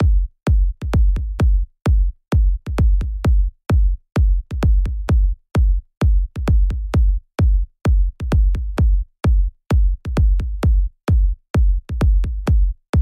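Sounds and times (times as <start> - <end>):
electronic music with kick drum: 0.0 - 13.0.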